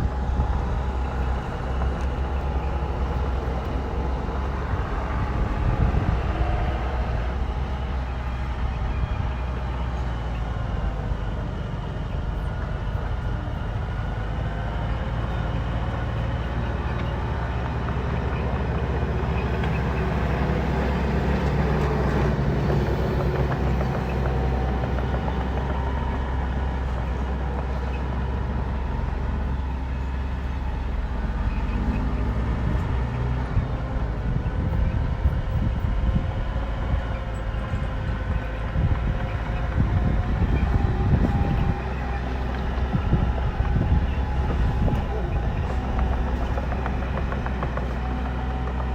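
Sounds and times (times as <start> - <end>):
bulldozer diesel engine: 0.0 - 48.9.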